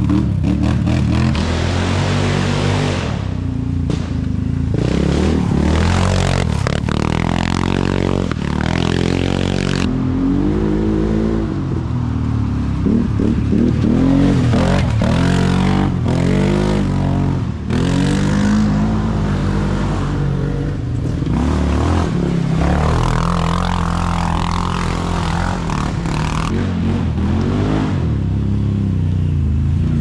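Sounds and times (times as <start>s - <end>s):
quad engine revving: 0.0s - 3.3s, 4.7s - 11.6s, 12.8s - 28.2s.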